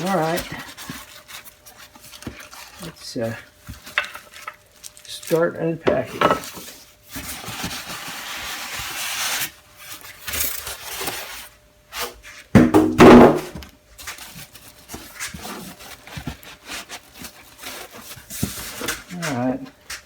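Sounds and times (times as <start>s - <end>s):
squeaky rub of packing material: 0.0s - 5.4s, 6.5s - 12.5s, 14.0s - 19.8s
cardboard rustling and scraping: 0.0s - 20.0s.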